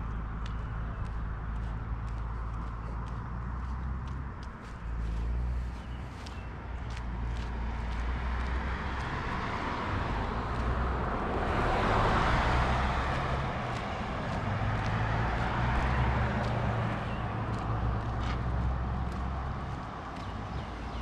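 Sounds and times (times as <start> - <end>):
car passing: 0.0 - 21.0
footsteps on pavement: 0.0 - 21.0.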